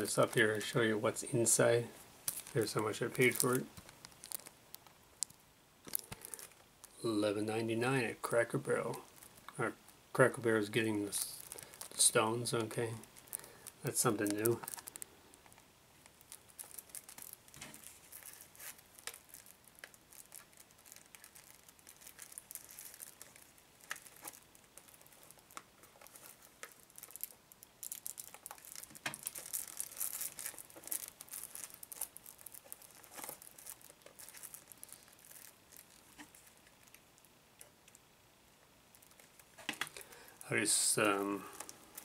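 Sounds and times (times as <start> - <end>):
plastic shrink-wrap crinkling: 0.0 - 42.0.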